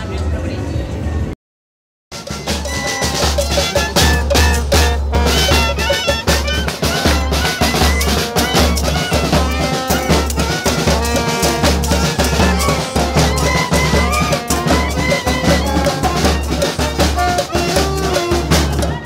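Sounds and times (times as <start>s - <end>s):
bass drum beat: 2.1s - 19.0s
snare drum: 2.1s - 19.0s
trombone: 2.1s - 19.0s
clarinet: 2.2s - 19.0s.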